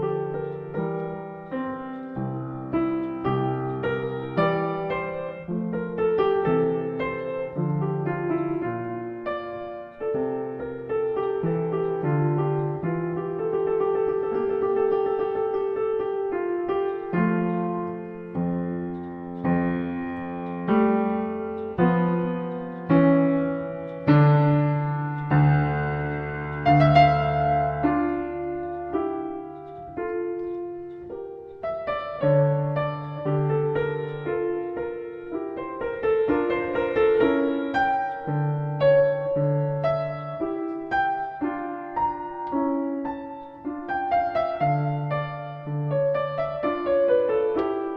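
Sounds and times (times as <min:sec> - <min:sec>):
solo piano chords ringing: 0:00.0 - 0:47.9.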